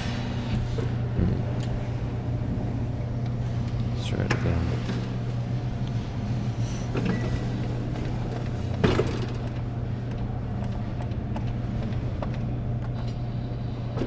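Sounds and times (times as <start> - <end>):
claw machine low hum: 0.0 - 14.0.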